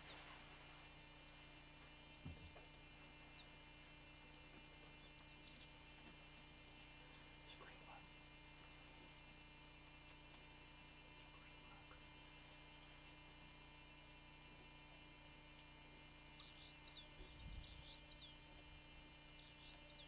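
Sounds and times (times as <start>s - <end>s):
birds chirping: 0.0s - 14.1s, 14.7s - 20.0s
low hum: 0.0s - 20.0s.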